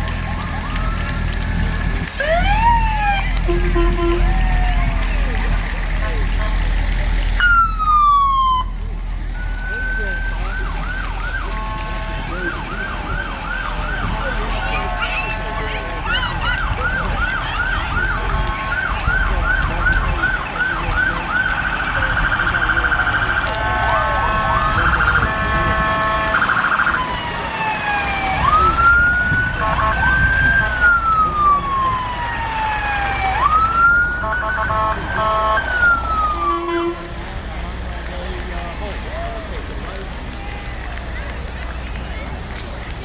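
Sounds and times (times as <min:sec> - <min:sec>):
emergency vehicle siren: 0:00.0 - 0:06.7, 0:07.3 - 0:43.0.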